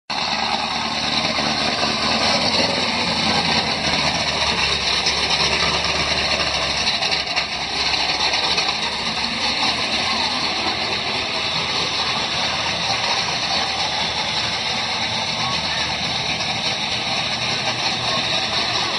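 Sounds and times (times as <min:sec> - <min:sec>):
car engine running loudly: 0:00.1 - 0:18.9.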